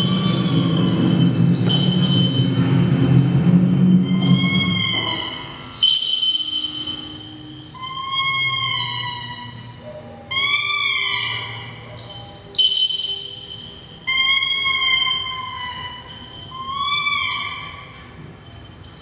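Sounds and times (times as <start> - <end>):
ringing tones sliding in pitch: 0.0 - 19.0.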